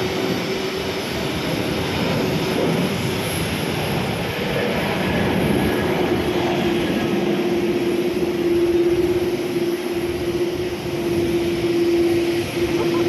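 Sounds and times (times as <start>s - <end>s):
jet airliner taking off: 0.0s - 13.0s.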